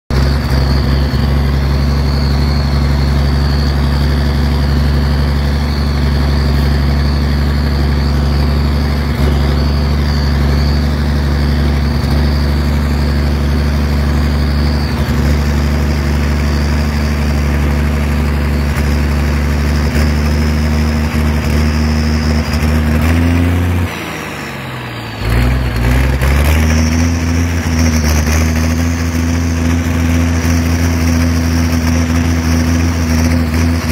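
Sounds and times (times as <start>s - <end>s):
high whine: 0.1s - 33.9s
tractor diesel engine running: 0.1s - 33.9s.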